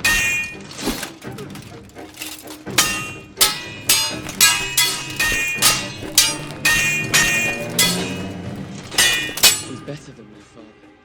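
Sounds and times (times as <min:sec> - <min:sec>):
steel swords clashing: 0:00.0 - 0:10.0.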